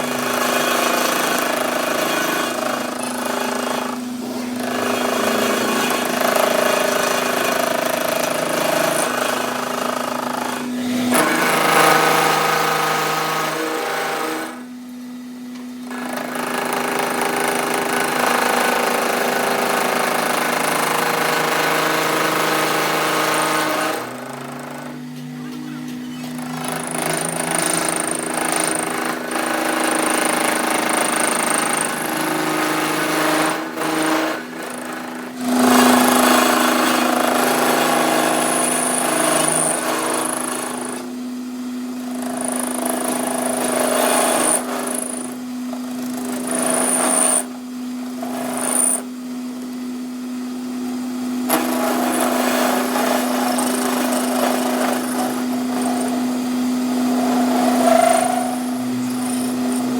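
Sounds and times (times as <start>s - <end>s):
steady motor hum: 0.0s - 59.9s
workshop power tool running: 0.0s - 59.9s.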